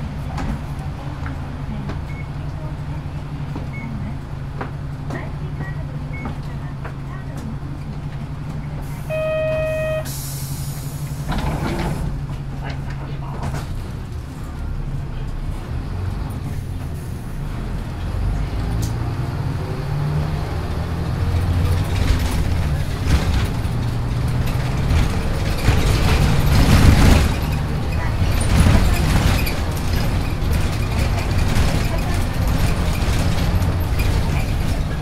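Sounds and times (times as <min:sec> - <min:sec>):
bus body rattling: 0:00.0 - 0:35.0
bus diesel engine humming: 0:00.0 - 0:35.0.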